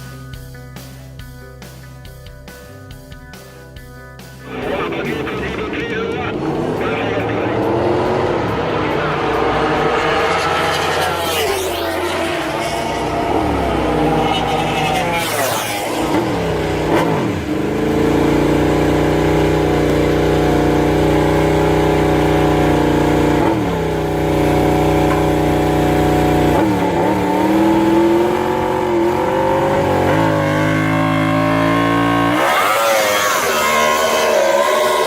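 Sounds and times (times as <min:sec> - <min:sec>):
motorcycle engine at high revs: 0:04.6 - 0:35.0.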